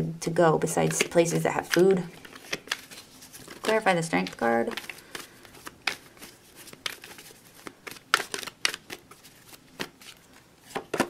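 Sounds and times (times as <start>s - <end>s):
cards being shuffled: 0.8s - 11.0s.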